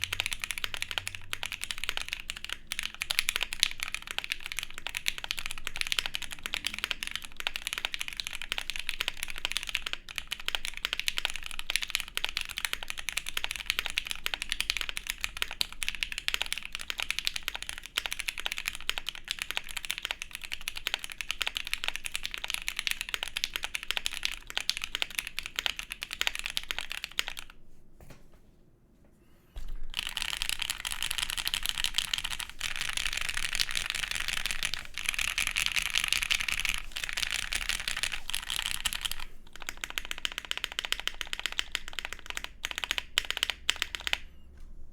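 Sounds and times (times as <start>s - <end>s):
fast mechanical keyboard typing: 0.0s - 27.6s, 29.6s - 44.3s.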